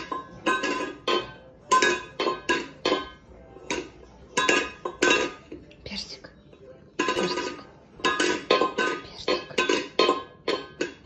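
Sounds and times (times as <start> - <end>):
metal bowl clanking on floor: 0.0 - 5.8, 6.9 - 11.0.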